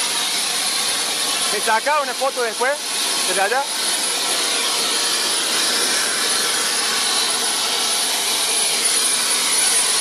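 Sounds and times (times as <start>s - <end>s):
helicopter engine and rotor running: 0.0s - 10.0s.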